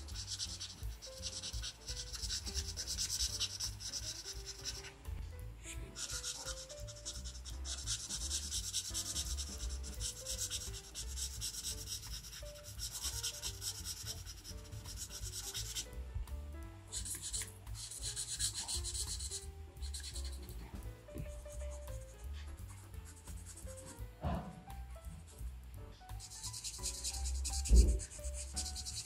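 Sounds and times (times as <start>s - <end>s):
marker scratching on paper: 0.0s - 16.0s, 16.9s - 24.1s, 26.1s - 29.0s.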